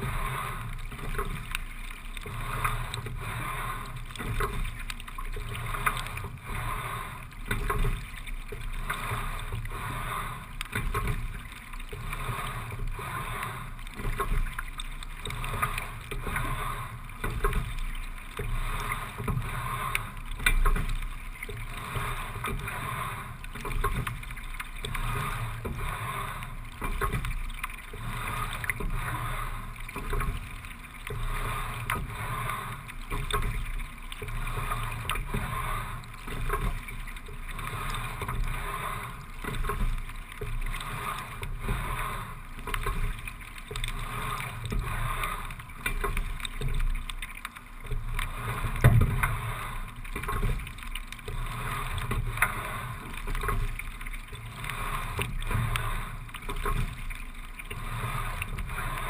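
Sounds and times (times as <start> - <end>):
water running along rowing boat: 0.0 - 59.0.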